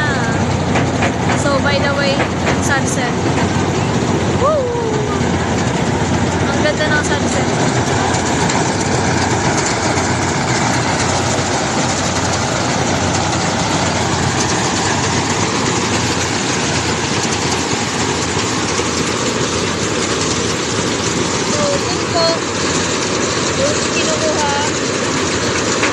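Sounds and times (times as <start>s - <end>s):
combine harvester engine din: 0.0s - 25.9s.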